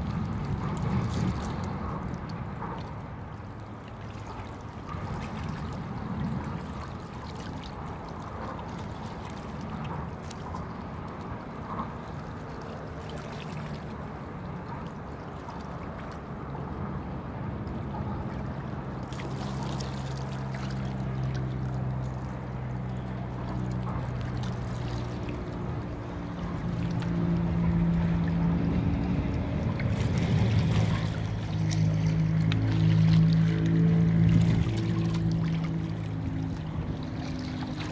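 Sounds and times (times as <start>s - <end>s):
motorboat engine droning: 0.0s - 37.9s
water lapping against pier: 0.0s - 37.9s.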